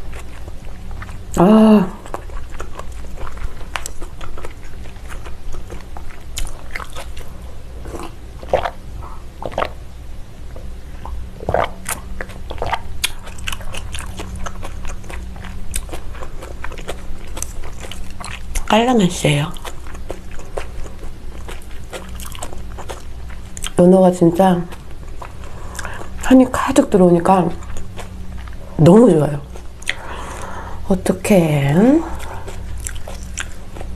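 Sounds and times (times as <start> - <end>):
wet chewing and mouth clicks: 0.0 - 1.4, 2.0 - 9.8, 10.5 - 23.8, 24.6 - 26.7, 27.4 - 28.7, 29.4 - 30.6, 32.1 - 33.9
faint steady hum: 0.0 - 33.9.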